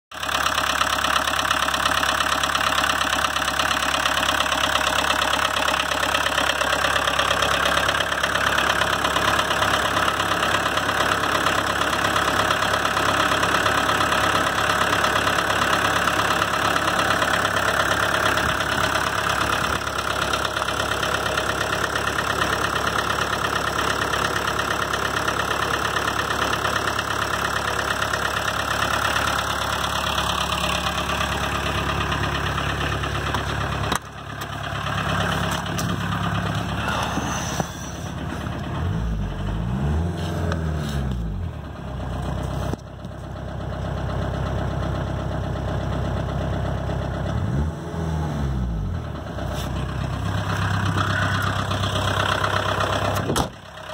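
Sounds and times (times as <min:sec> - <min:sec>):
diesel engine idling: 0:00.1 - 0:53.9.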